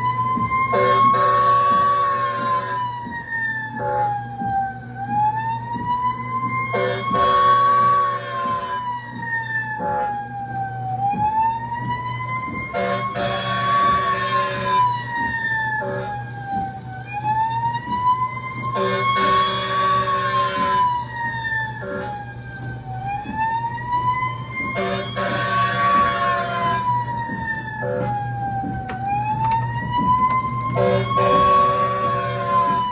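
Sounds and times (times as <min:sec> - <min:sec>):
electronic siren wailing: 0:00.0 - 0:32.9
steady low hum: 0:00.0 - 0:32.9.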